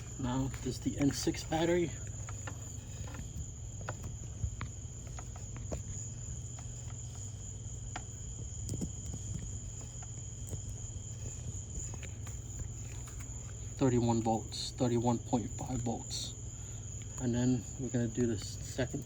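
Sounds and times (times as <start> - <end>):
low hum: 0.0 - 18.4.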